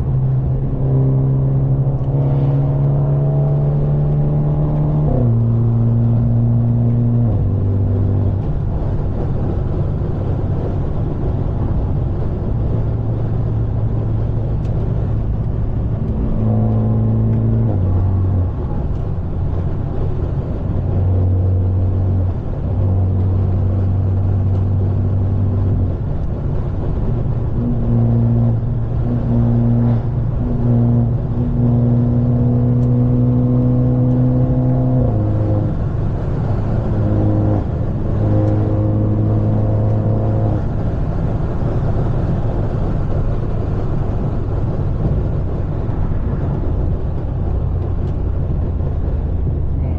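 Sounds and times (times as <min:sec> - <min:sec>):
car exhaust drone: 0:00.0 - 0:49.9.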